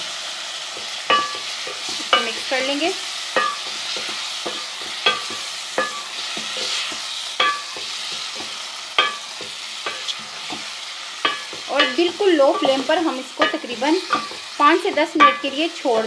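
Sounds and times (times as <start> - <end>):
steady sizzle: 0.0 - 16.0
spoon clinking against pan: 0.8 - 2.5, 3.4 - 15.6.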